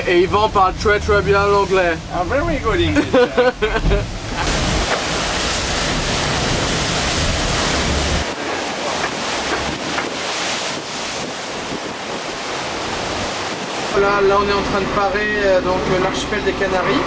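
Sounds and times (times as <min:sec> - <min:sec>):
wind and water rushing: 0:00.0 - 0:17.0
wind buffeting microphone: 0:00.0 - 0:17.0.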